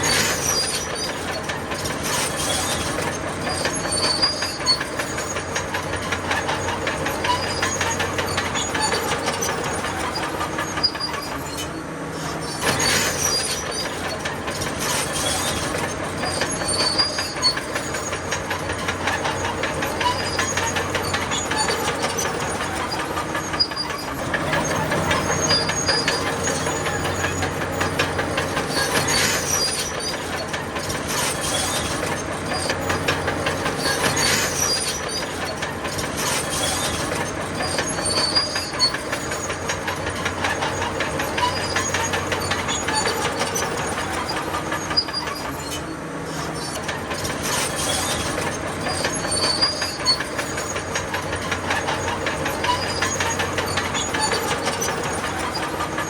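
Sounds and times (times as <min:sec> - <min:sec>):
bulldozer diesel engine: 0:00.0 - 0:56.0
crawler tracks clanking: 0:00.0 - 0:56.0.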